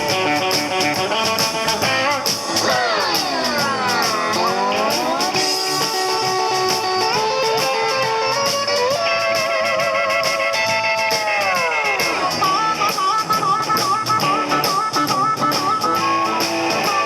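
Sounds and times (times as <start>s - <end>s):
cymbal beats: 0.0s - 15.4s
lead guitar with vibrato: 0.0s - 17.0s.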